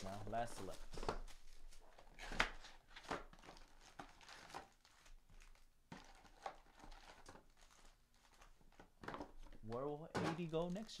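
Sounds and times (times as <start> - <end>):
card packaging crinkling and tearing: 0.0 - 9.5.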